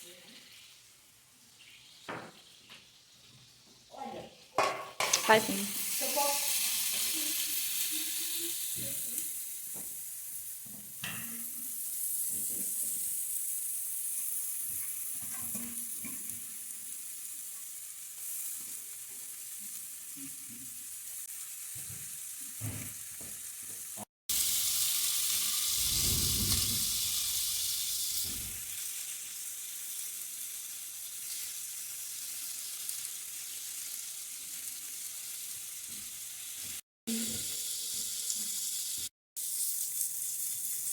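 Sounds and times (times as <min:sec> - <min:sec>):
steak sizzling in a frying pan: 0:04.8 - 0:40.9.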